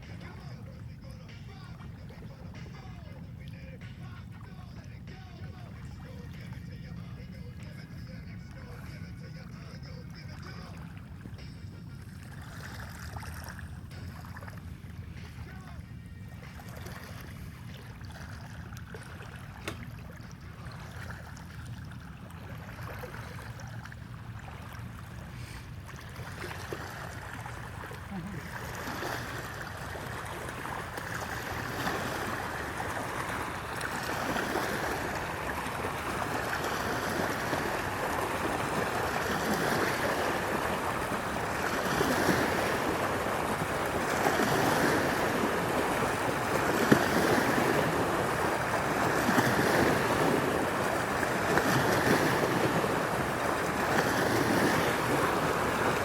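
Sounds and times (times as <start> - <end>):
water rushing along a hull: 0.0 - 56.0.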